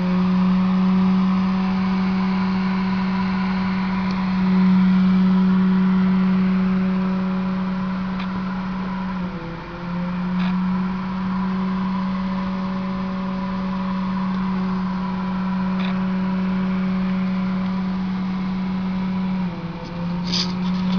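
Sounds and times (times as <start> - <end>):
machine hum: 0.0 - 20.9
wavering held tone: 0.0 - 20.9.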